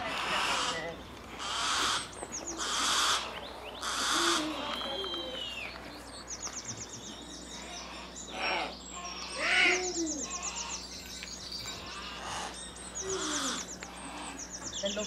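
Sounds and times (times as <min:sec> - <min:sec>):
lower arching bird calls: 0:00.0 - 0:15.0
songbird high rapid trill: 0:00.0 - 0:15.0.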